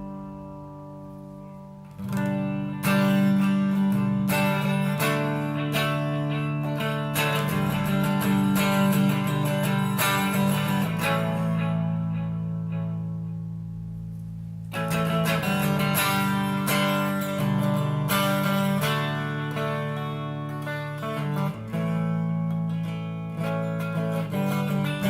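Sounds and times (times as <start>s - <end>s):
electric guitar chords with delay: 0.0s - 25.0s.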